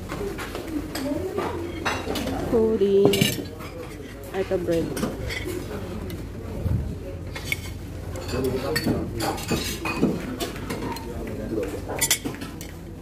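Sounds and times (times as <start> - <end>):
murmur of voices: 0.0 - 13.0
plates and utensils clinking: 0.2 - 6.3, 7.3 - 13.0.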